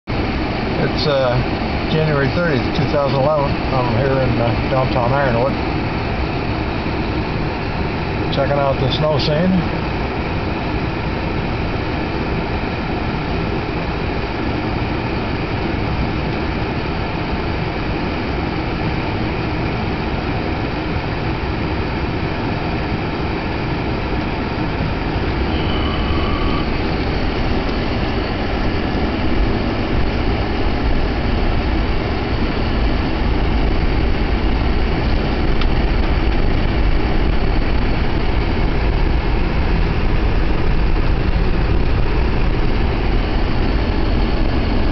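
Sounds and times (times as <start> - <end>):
car engine idling: 0.0 - 44.9
tyres rumbling on snowy road: 0.1 - 44.9.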